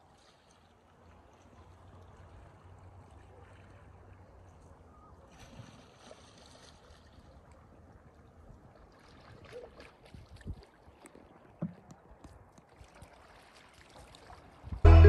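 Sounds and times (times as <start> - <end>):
water lapping against boat: 0.0 - 14.8.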